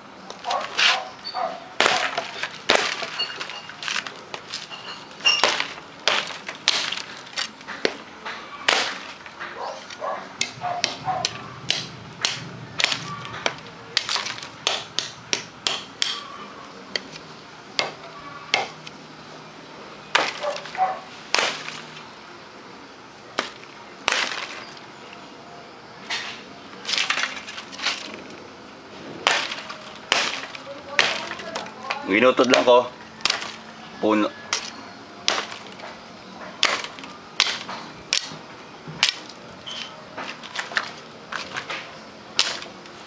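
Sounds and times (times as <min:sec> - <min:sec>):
machete chopping branches: 0:00.3 - 0:01.2, 0:01.8 - 0:16.3, 0:16.9 - 0:18.9, 0:20.1 - 0:22.1, 0:23.3 - 0:24.8, 0:26.0 - 0:28.3, 0:29.2 - 0:33.7, 0:34.5 - 0:36.0, 0:36.6 - 0:43.0.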